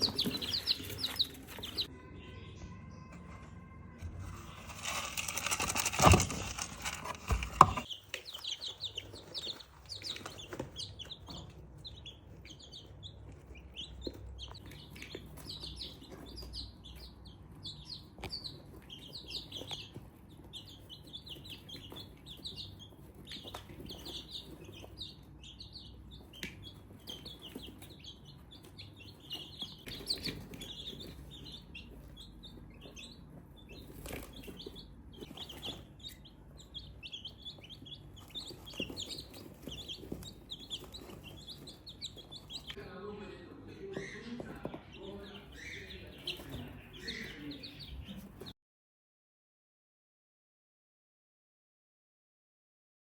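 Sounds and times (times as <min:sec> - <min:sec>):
chicks peeping: 0:00.0 - 0:48.6.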